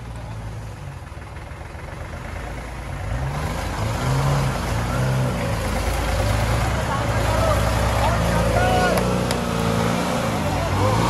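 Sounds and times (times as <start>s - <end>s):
tractor engine straining: 0.0s - 11.0s.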